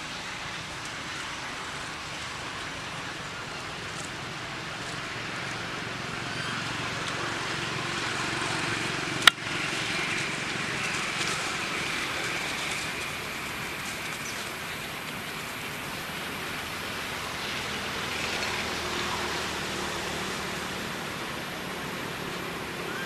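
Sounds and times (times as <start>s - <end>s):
forest ambience hiss: 0.0s - 23.0s.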